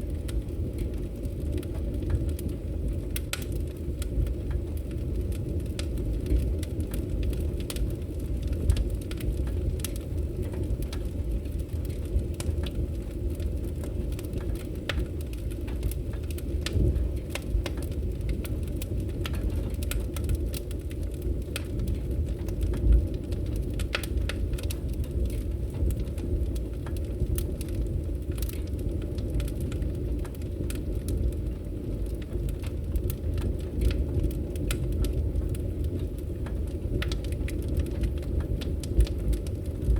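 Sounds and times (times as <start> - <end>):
fire popping and snapping: 0.0 - 39.9
flames rumbling: 0.0 - 39.9.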